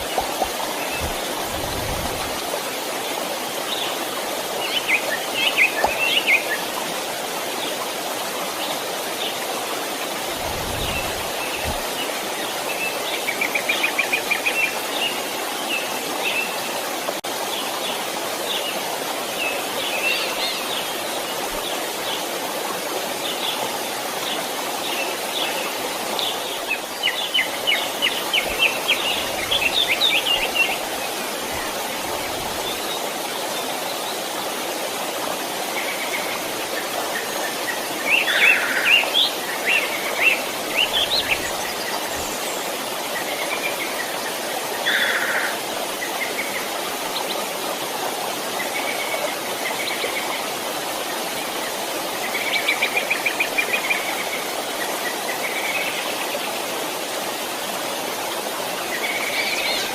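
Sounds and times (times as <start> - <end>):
small stream running: 0.0 - 59.9.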